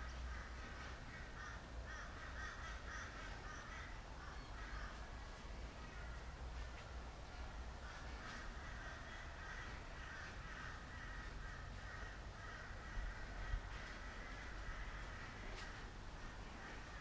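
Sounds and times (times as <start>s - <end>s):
faint crows cawing: 0.0s - 17.0s.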